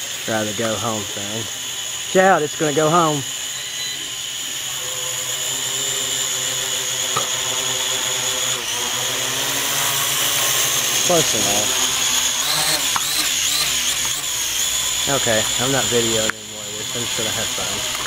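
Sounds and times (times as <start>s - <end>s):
quadcopter propellers whining: 0.0s - 18.0s.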